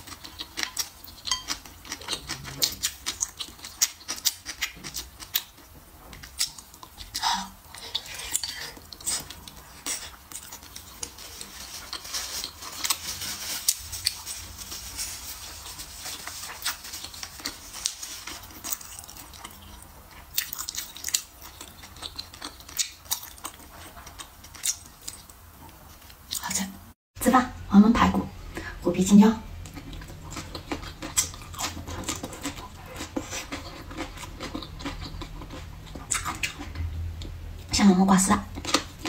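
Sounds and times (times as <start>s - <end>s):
chewing with wet mouth sounds: 0.0s - 13.1s, 13.7s - 26.4s, 29.6s - 37.4s, 38.3s - 39.0s.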